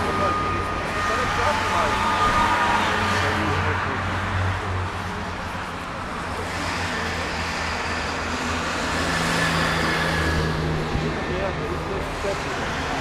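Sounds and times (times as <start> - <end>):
trucks and cars passing: 0.0 - 13.0.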